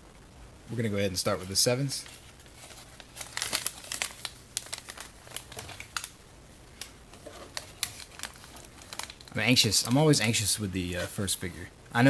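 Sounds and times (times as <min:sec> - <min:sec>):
foil packet crinkling: 0:01.2 - 0:11.6.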